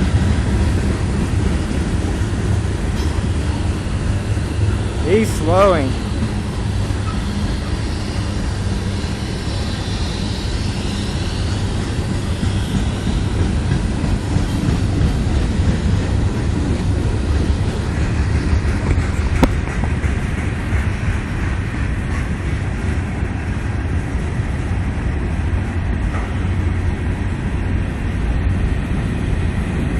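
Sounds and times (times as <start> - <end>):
freight train cars rolling: 0.0 - 29.9.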